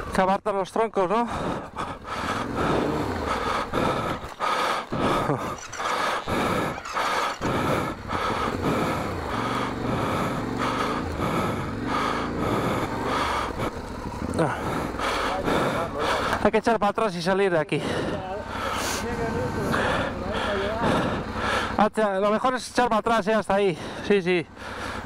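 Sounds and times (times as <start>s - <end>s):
motorcycle engine revving: 1.2s - 21.8s, 23.8s - 25.0s.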